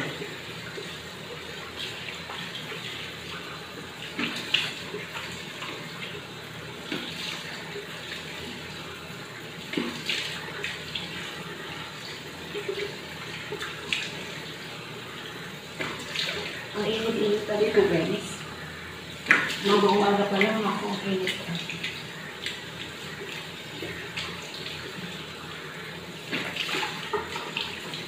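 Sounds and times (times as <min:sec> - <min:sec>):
tap water running into sink: 0:00.0 - 0:28.0
water splashing: 0:00.0 - 0:28.0.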